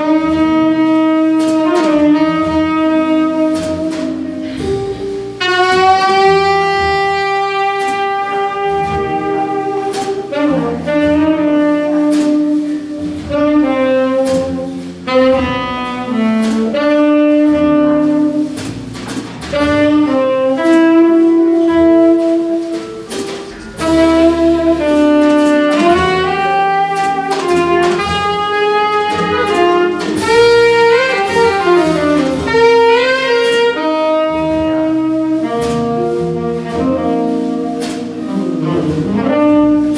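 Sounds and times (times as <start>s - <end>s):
tenor saxophone melody: 0.0s - 18.9s, 19.5s - 39.9s
double bass: 0.0s - 39.9s
drums with cymbal strokes: 0.0s - 39.9s.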